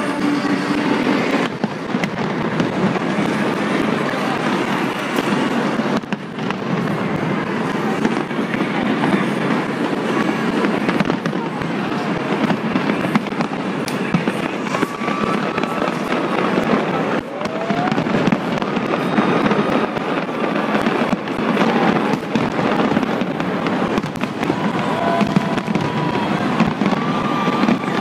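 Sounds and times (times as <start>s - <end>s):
fireworks crackling and banging: 0.0s - 28.0s.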